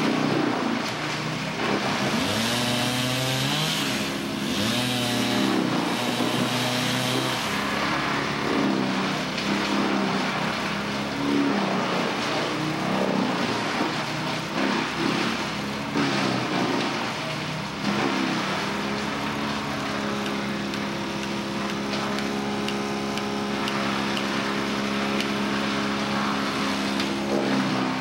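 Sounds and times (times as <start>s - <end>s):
engine-driven machinery running: 0.0s - 28.0s.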